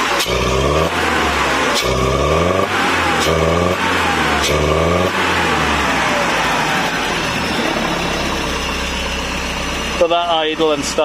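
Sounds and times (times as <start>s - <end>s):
engine revving then idling: 0.0s - 11.0s.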